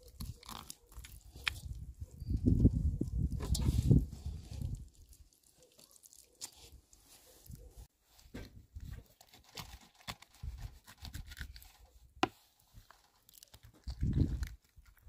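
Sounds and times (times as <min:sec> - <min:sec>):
tearing and scraping: 0:00.0 - 0:15.0.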